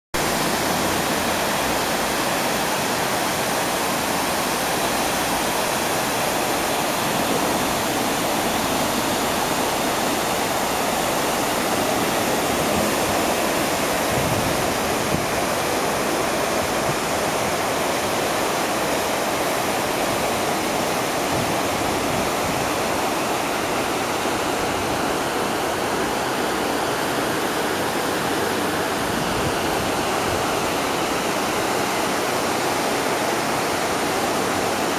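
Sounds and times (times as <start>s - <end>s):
rush of falling water: 0.2s - 34.9s.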